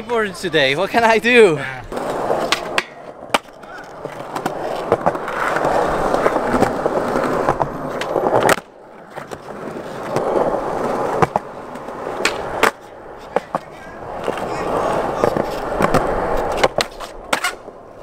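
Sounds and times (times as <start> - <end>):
skateboard wheels rolling on concrete: 0.0 - 18.0
skateboard clacking on ground: 1.9 - 18.0.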